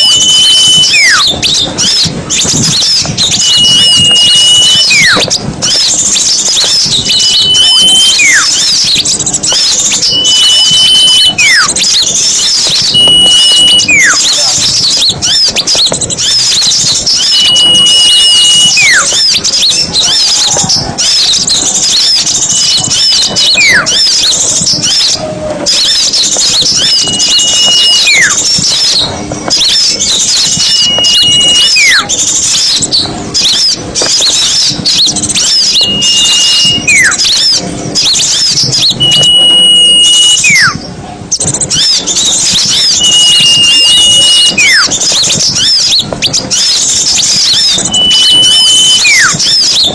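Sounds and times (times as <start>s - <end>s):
songbirds chattering and twittering: 0.0s - 49.9s
whistled falling bird call: 0.0s - 49.9s.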